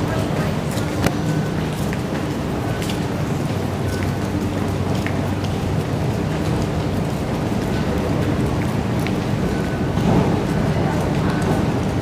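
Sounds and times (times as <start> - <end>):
train running: 0.0 - 12.0.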